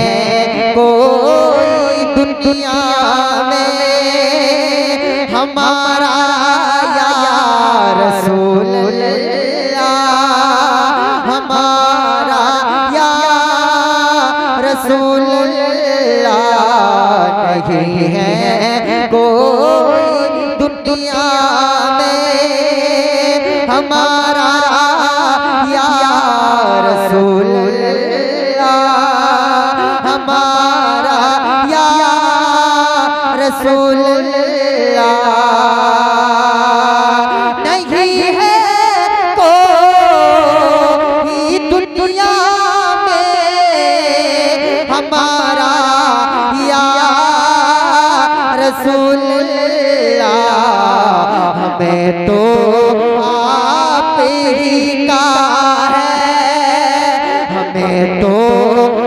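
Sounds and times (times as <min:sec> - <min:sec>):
man singing melismatic notes: 0:00.0 - 0:59.0.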